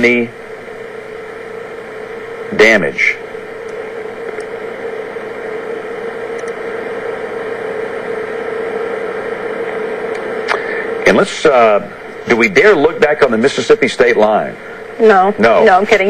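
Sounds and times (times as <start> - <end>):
constant mid-pitched hum: 0.0 - 16.0.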